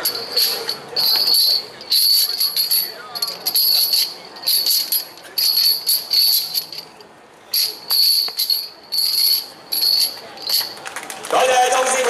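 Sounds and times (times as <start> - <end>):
metallic jingling: 0.0 - 10.8.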